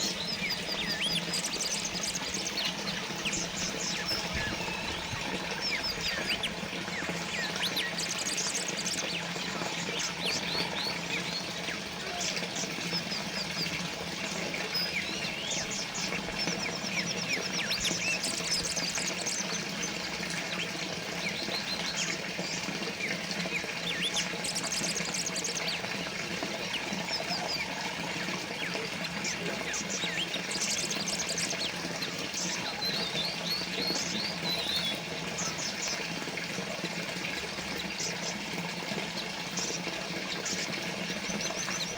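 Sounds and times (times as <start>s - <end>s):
songbirds chirping: 0.0s - 41.9s
water trickling from fountain: 0.0s - 41.9s.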